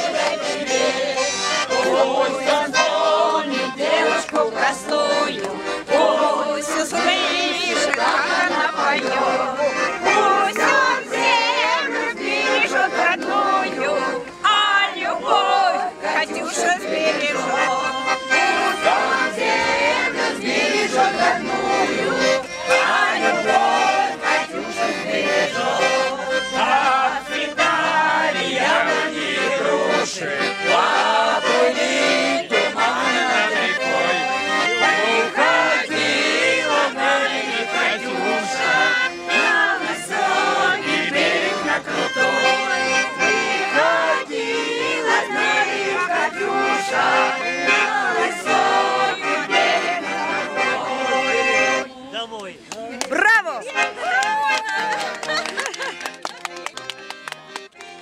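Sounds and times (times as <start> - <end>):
group of people singing: 0.0 - 52.2
accordion playing folk tune: 0.0 - 58.0.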